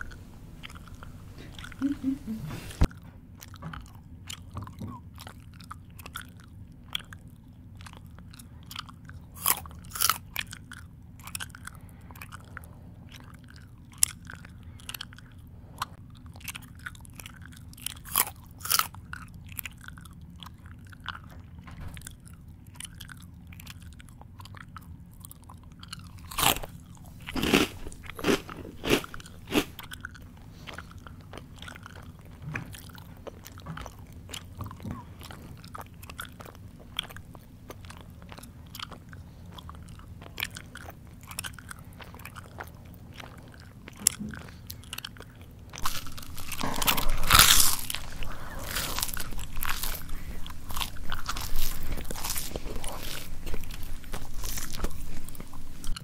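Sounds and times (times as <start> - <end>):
low steady hum: 0.0 - 56.0
person chewing food: 0.0 - 56.0.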